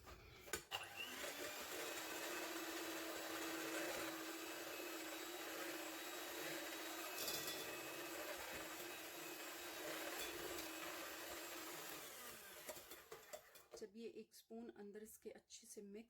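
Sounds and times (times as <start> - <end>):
electric hand mixer motor: 0.7 - 13.6.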